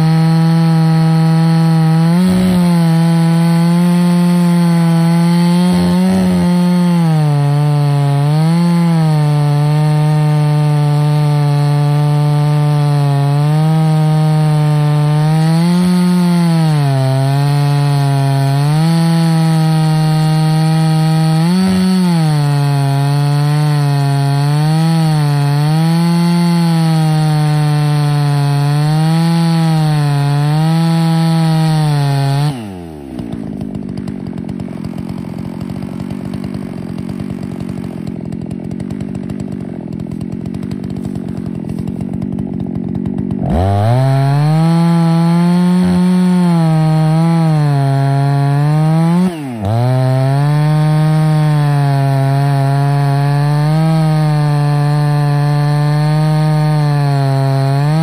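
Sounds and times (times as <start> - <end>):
chainsaw cutting log: 0.0 - 58.0
chainsaw idling: 0.0 - 58.0.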